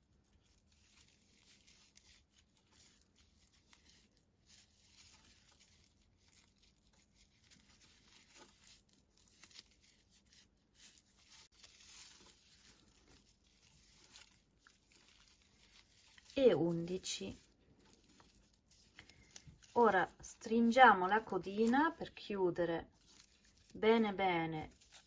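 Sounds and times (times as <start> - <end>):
yarn rustling and scratching: 0.0 - 25.0.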